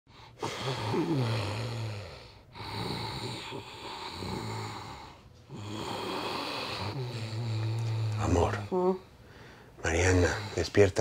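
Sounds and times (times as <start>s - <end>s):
woman snoring: 0.2s - 9.2s.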